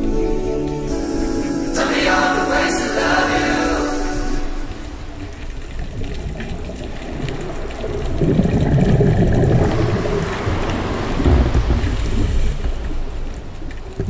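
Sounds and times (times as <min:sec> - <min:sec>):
underwater rushing water: 0:01.3 - 0:14.0.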